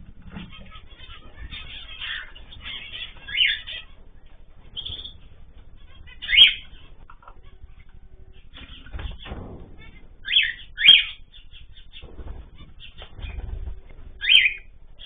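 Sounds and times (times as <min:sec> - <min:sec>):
cage birds chirping: 0:00.0 - 0:15.0
loud sweeping bird calls: 0:00.3 - 0:15.0.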